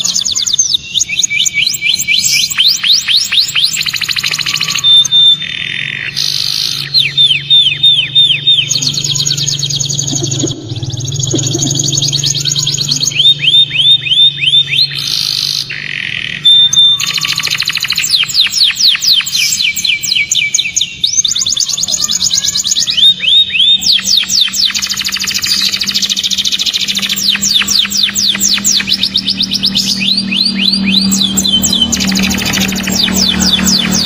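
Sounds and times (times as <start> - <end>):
canary singing trills: 0.0 - 34.0.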